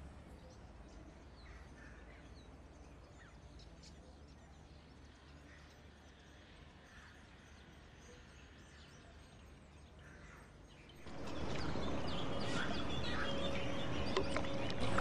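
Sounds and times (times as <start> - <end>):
steady background hush: 0.0 - 15.0
birds chirping: 0.2 - 15.0.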